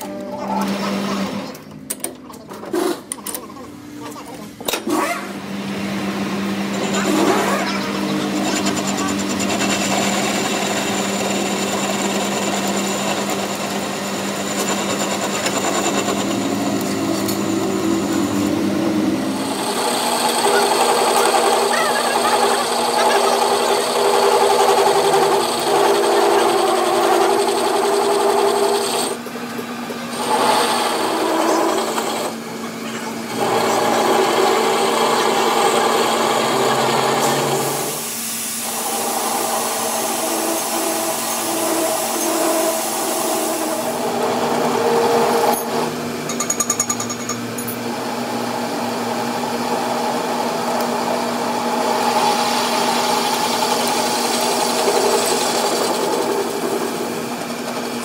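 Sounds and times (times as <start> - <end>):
metal lathe humming and whining: 5.4 - 58.0.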